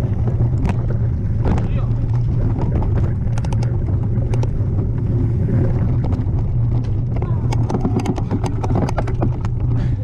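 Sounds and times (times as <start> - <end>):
bike rattling over stones: 0.0 - 10.0
tyres rumbling on dirt: 0.0 - 10.0
wind on microphone: 0.0 - 10.0.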